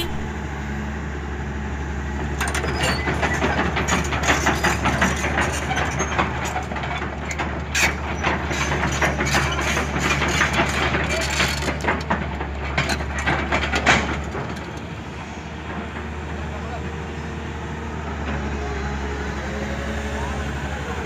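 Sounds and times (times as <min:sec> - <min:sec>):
steel tracks clanking and creaking: 0:00.0 - 0:00.3, 0:02.4 - 0:21.0
excavator diesel engine running: 0:00.0 - 0:21.0.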